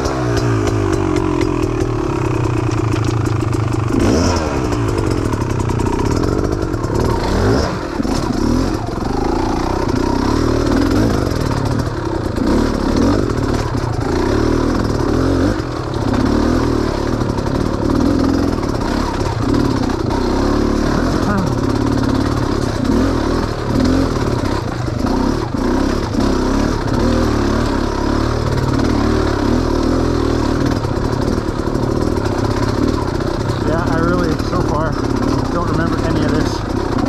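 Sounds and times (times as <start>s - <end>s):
off-road vehicle engine revving: 0.0s - 37.0s.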